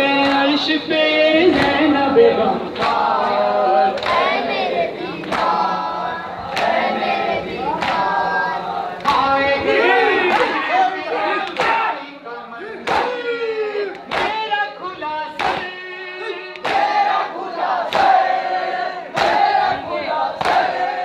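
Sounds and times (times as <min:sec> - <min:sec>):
men chanting together: 0:00.0 - 0:21.0.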